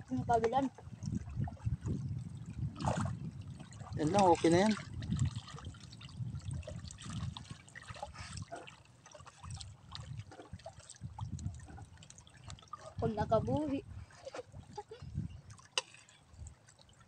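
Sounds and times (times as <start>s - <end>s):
small water splashes: 0.0s - 17.0s
water lapping and trickling: 0.0s - 17.0s.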